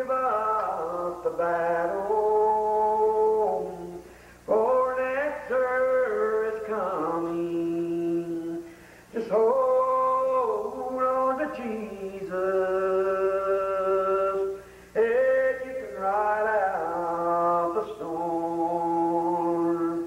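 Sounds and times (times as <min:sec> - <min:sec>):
man singing slowly: 0:00.0 - 0:20.0.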